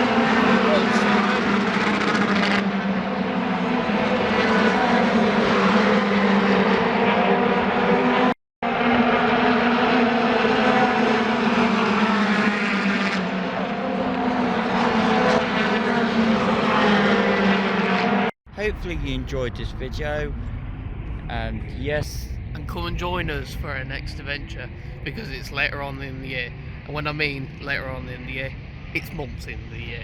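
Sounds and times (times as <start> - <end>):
aircraft engine drone overhead: 0.0 - 30.0.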